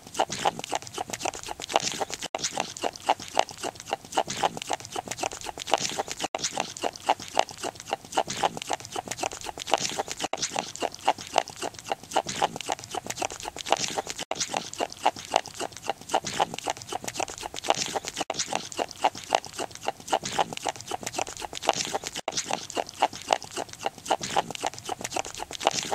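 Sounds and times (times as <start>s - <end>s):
animal chewing with jaw clicks: 0.0s - 25.9s.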